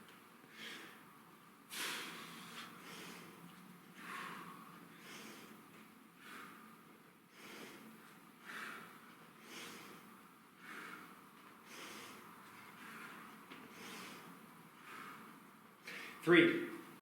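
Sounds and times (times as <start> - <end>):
man breathing hard: 0.5 - 16.2.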